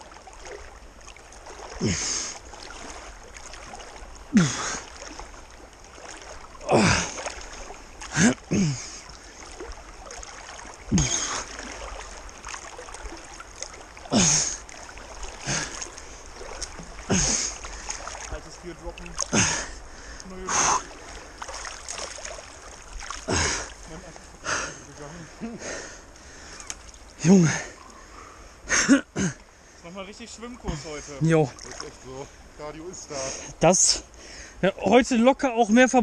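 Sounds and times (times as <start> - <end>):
river rushing: 0.0 - 29.0
swimmers splashing: 0.0 - 33.6.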